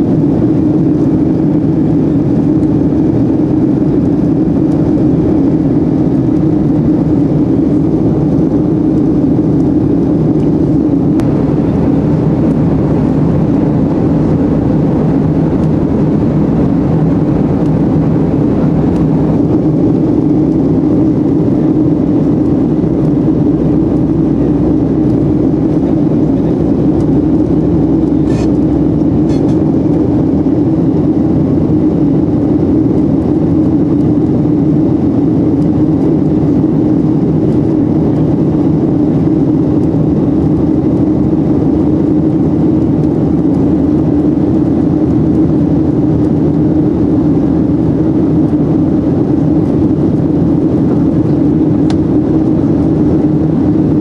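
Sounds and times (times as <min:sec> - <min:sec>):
airflow over plane: 0:00.0 - 0:54.0
airplane cabin engine drone: 0:00.0 - 0:54.0.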